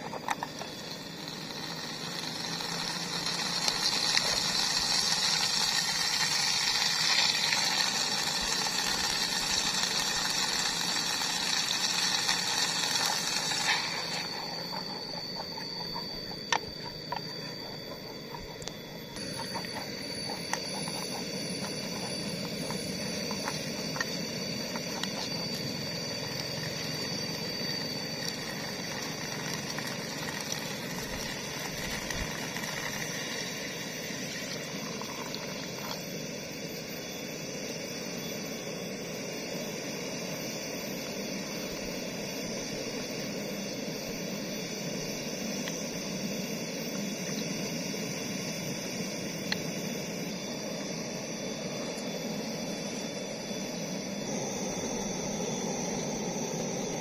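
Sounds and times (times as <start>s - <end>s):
gas stove hissing: 0.0s - 57.0s
liquid bubbling in pot: 0.0s - 57.0s.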